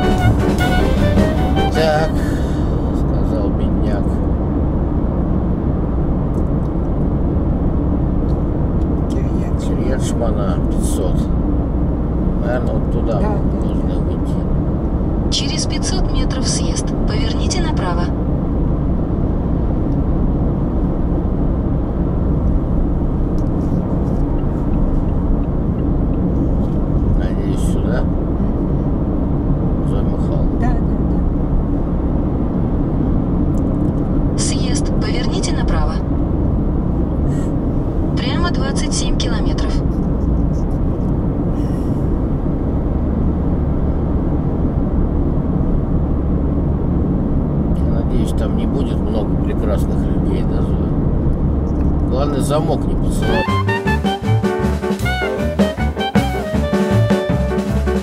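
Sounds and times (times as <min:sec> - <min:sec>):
car interior road rumble: 0:00.0 - 0:53.6.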